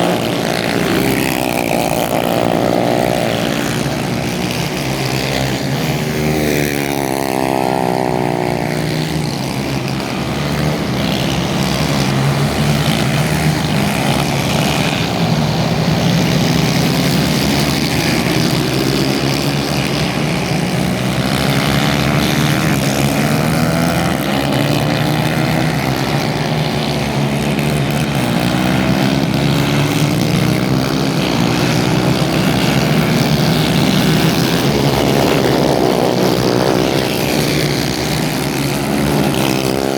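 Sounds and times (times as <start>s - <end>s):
racing kart engines buzzing: 0.0s - 39.9s.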